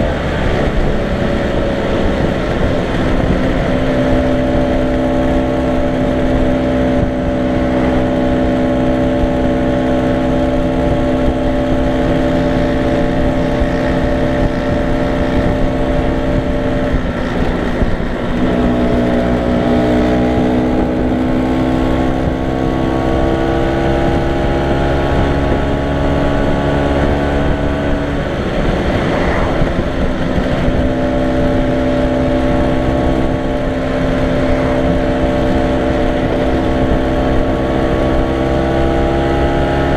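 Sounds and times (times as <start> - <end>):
scooter engine running: 0.0 - 39.9
wind rush: 0.0 - 39.9.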